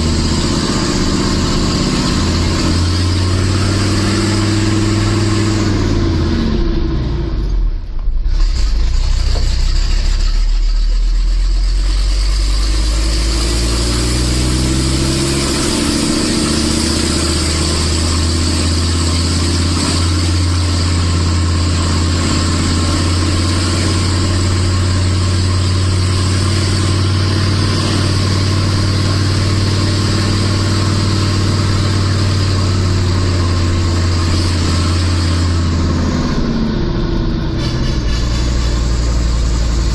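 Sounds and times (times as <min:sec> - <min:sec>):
truck engine under heavy load: 0:00.0 - 0:39.9.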